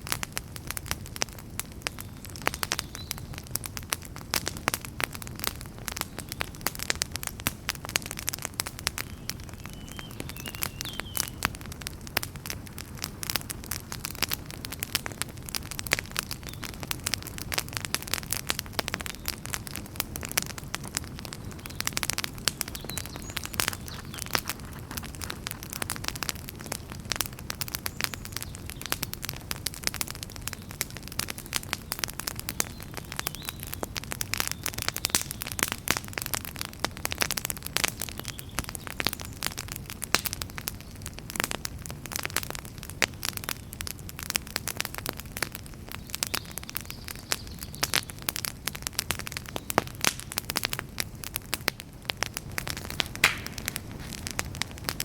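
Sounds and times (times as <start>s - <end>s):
campfire crackling and popping: 0.0s - 55.0s
low rumble of flame: 0.0s - 55.0s
wind: 0.0s - 55.0s.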